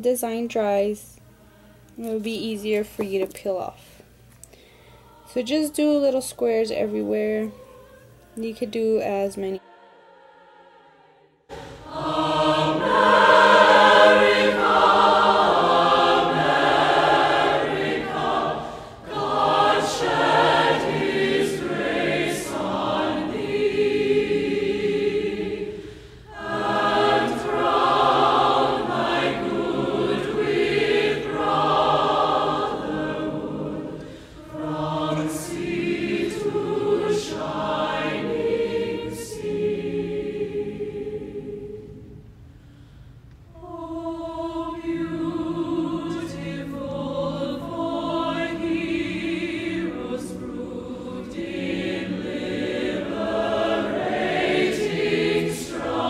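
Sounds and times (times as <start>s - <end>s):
choir singing slowly: 6.6s - 56.0s.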